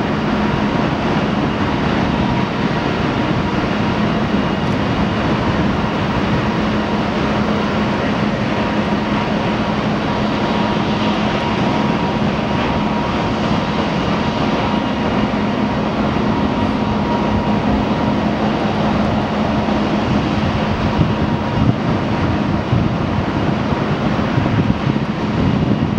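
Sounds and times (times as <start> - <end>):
high jet engine whine: 0.0 - 25.9
jet engines roaring: 0.0 - 25.9.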